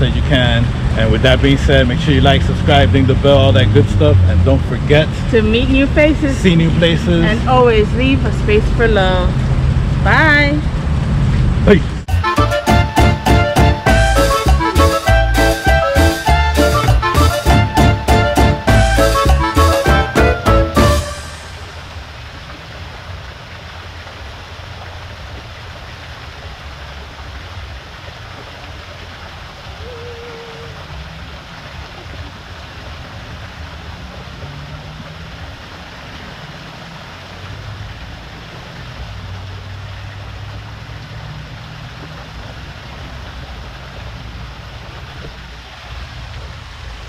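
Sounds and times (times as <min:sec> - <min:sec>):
waterfall splashing into pool: 0:00.0 - 0:14.9, 0:15.5 - 0:47.0.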